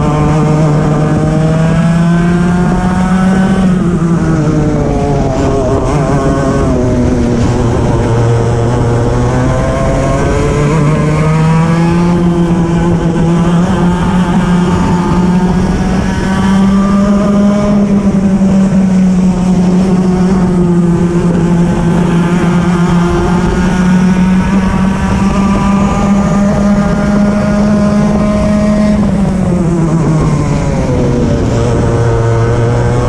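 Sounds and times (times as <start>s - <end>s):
kart engine running hard: 0.0s - 33.0s.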